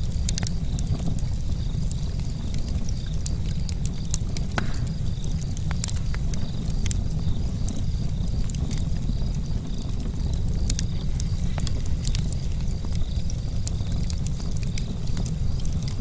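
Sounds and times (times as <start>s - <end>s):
charcoal fire crackling and popping: 0.0s - 16.0s.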